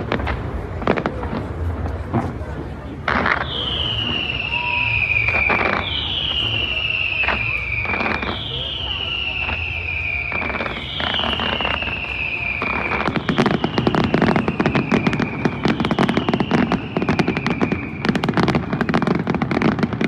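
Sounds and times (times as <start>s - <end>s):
firecrackers crackling: 0.0s - 20.0s
firework whistle falling in pitch: 3.1s - 20.0s.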